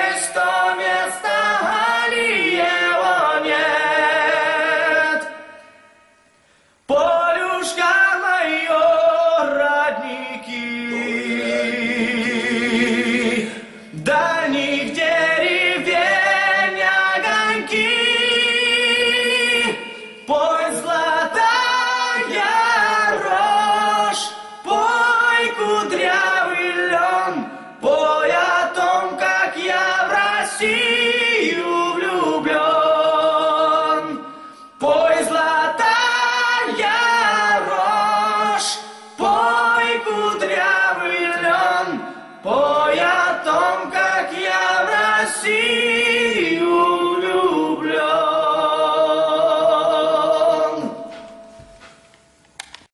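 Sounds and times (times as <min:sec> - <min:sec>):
male voices singing in harmony: 0:00.0 - 0:05.7, 0:06.9 - 0:51.4.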